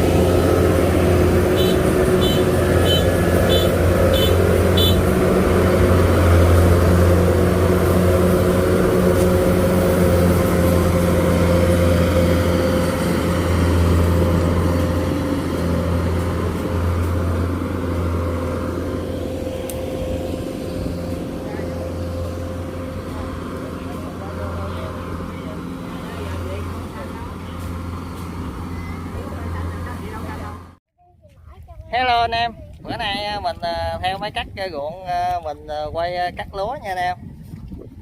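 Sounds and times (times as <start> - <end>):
machine engine droning: 0.0 - 30.8.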